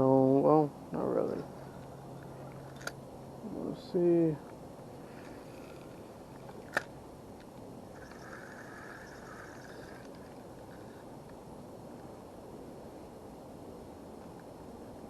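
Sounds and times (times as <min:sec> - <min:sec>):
outdoor wind: 0:00.0 - 0:15.0.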